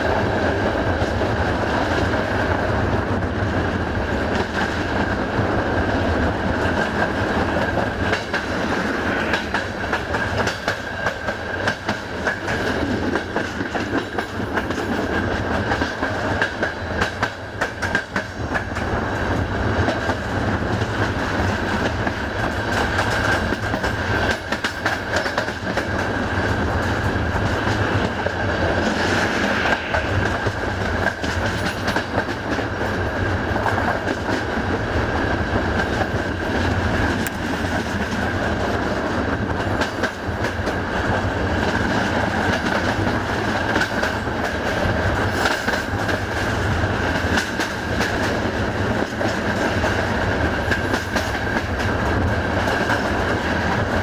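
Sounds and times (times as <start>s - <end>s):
train running noise: 0.0s - 54.0s.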